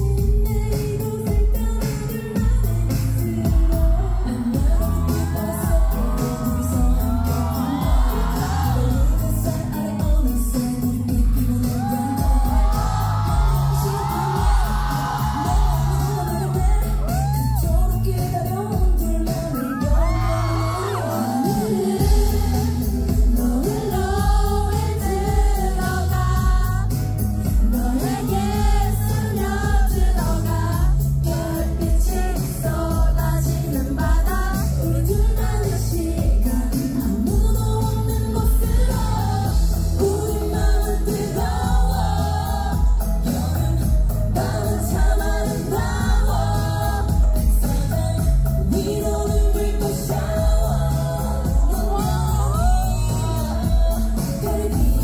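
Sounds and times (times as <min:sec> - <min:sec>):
pop backing track with bass beat: 0:00.0 - 0:55.0
woman singing into microphone: 0:00.0 - 0:55.0.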